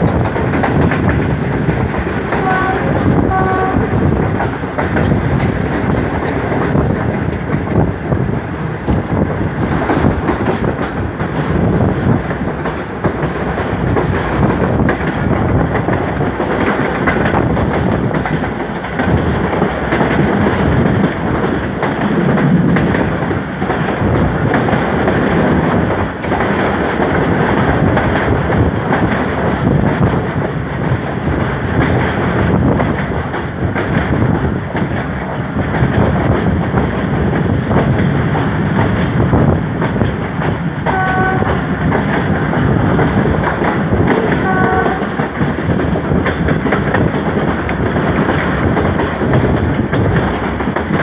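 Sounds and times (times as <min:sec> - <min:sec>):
moving train coach running noise: 0:00.0 - 0:51.0.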